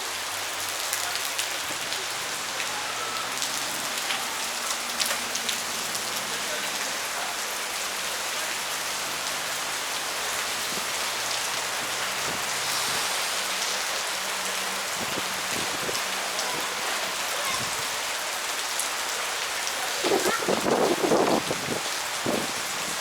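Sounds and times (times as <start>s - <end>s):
rain-like hiss: 0.0s - 23.0s.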